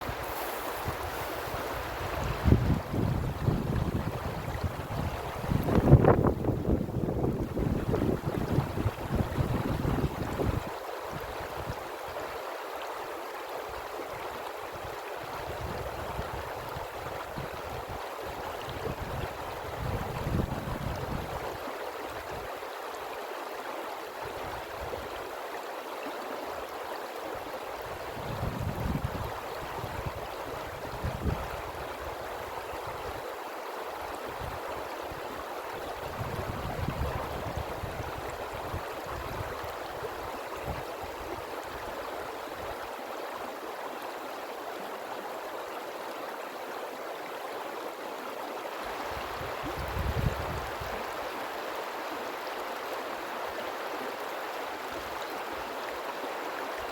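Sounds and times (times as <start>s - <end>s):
river water rushing: 0.0s - 28.5s, 29.1s - 56.9s.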